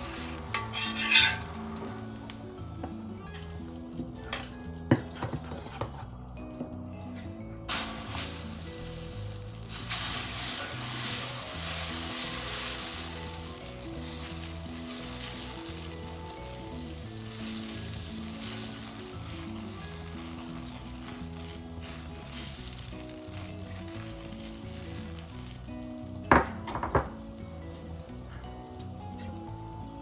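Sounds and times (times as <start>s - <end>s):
food sizzling on griddle: 0.0s - 4.0s, 7.7s - 30.0s
background music: 0.0s - 30.0s.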